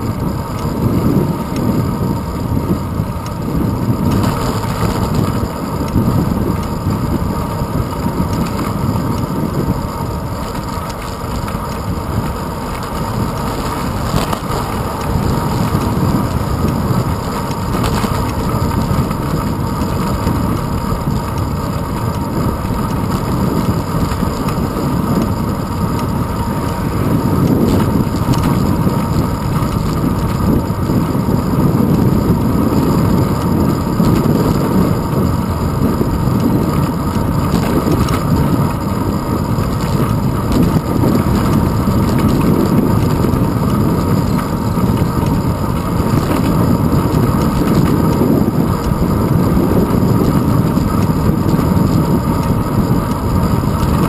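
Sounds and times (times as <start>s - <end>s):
road rumble: 0.0s - 54.0s.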